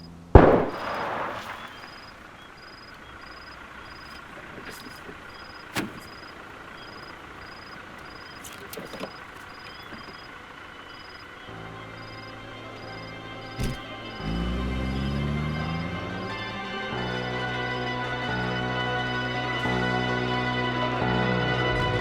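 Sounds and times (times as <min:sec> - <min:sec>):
faint outdoor ambience: 0:00.0 - 0:22.0.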